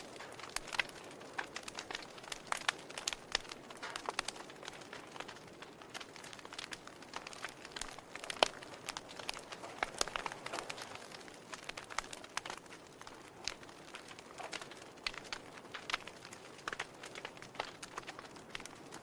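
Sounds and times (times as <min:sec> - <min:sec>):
soft fire hiss: 0:00.0 - 0:19.0
wood fire crackling and popping: 0:00.0 - 0:19.0.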